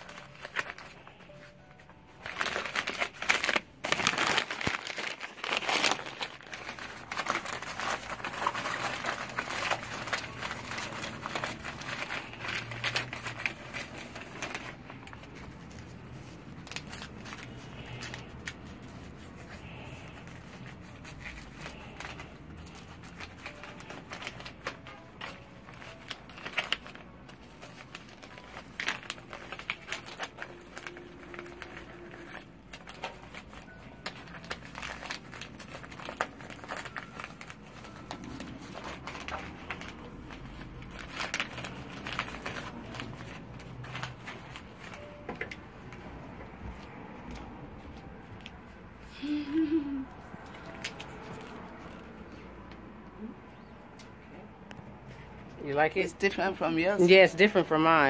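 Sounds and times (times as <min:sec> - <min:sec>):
stiff fabric crinkling and rustling: 0:00.0 - 0:53.7.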